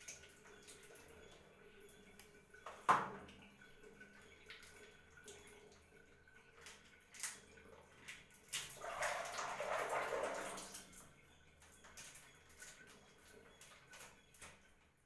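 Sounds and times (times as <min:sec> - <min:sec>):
water splashing and dripping: 0:00.0 - 0:14.6.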